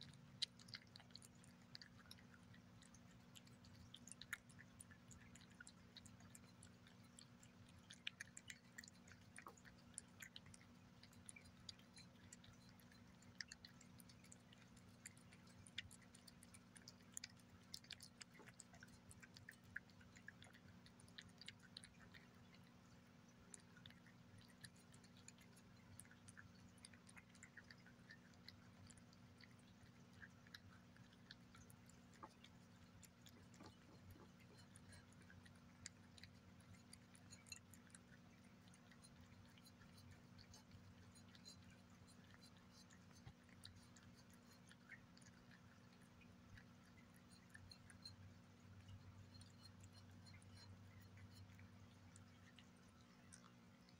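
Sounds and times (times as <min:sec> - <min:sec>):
cat lapping and chewing: 0:00.0 - 0:53.9
low steady hum: 0:00.0 - 0:53.9.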